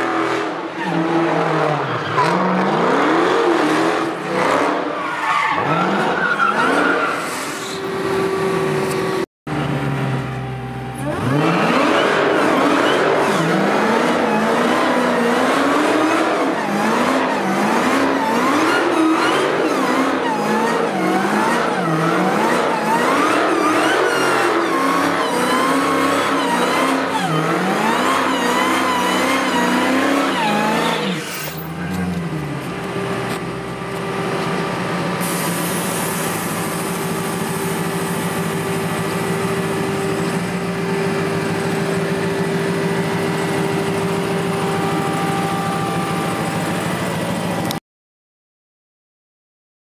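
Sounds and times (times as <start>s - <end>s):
car engine revving: 0.0s - 7.1s, 8.0s - 45.4s.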